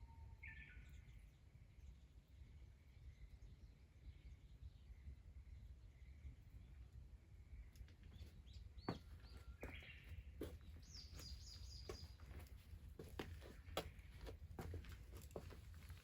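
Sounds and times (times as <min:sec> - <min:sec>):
small birds chirping: 0:00.4 - 0:16.0.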